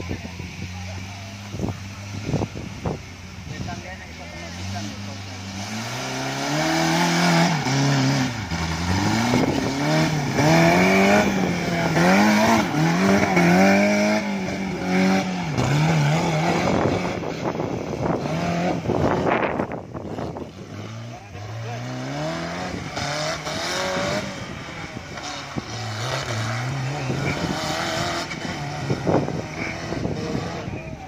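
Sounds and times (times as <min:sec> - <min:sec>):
buggy engine revving: 0:00.0 - 0:31.0.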